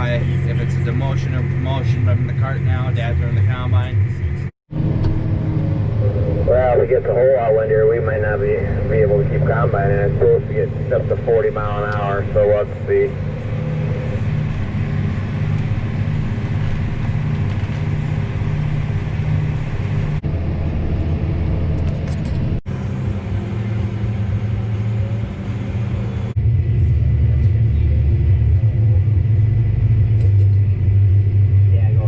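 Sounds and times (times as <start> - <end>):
heavy machinery engine droning: 0.0 - 32.0.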